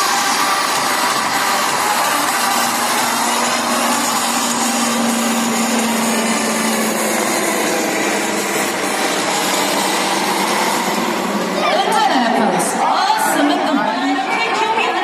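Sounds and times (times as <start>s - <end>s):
low hum: 0.0s - 13.0s
jet engine rushing whine: 0.0s - 13.8s.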